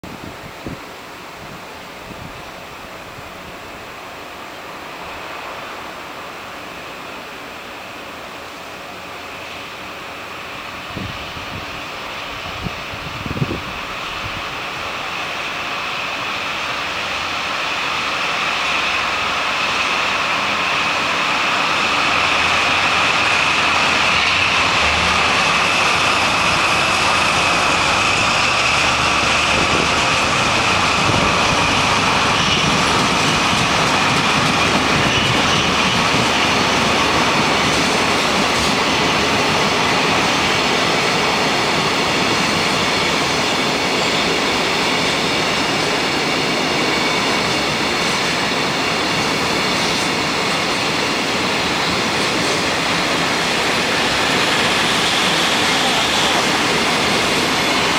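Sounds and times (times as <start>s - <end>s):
freight train passing: 0.0s - 57.9s.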